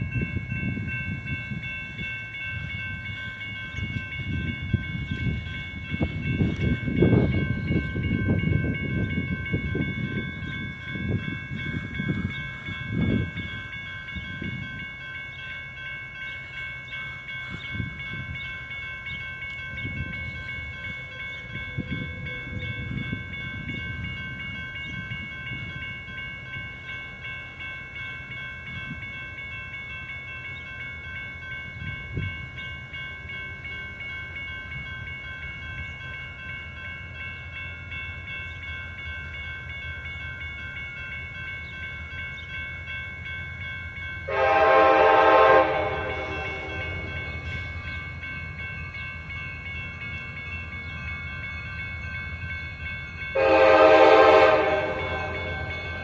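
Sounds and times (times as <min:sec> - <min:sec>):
railroad crossing bell ringing: 0:00.0 - 0:56.0.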